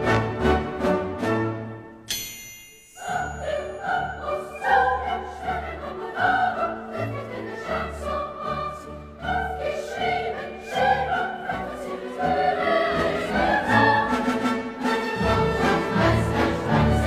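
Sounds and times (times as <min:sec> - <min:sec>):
classical orchestral music: 0:00.0 - 0:02.1, 0:03.0 - 0:17.0
choir singing: 0:03.0 - 0:17.0.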